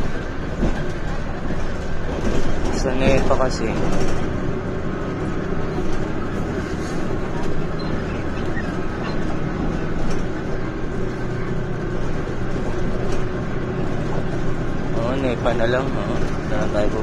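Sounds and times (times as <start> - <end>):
bus engine drone: 0.0 - 17.0
road noise: 0.0 - 17.0.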